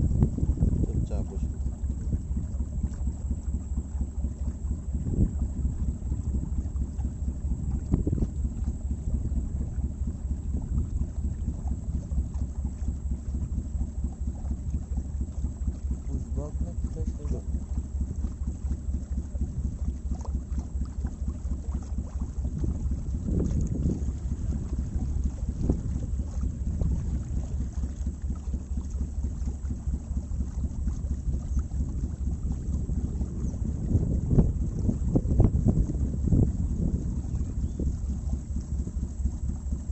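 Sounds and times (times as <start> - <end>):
boat engine rumble: 0.0 - 39.9
wind buffeting the microphone: 0.0 - 39.9.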